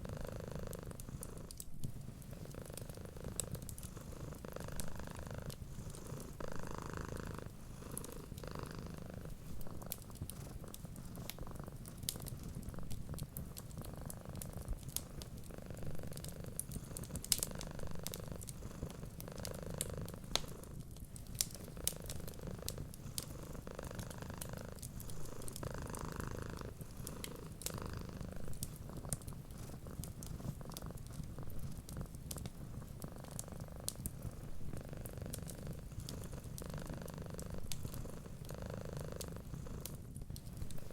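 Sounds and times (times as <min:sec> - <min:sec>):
cat purring: 0:00.0 - 0:40.9
fireplace fire crackling: 0:00.0 - 0:40.9.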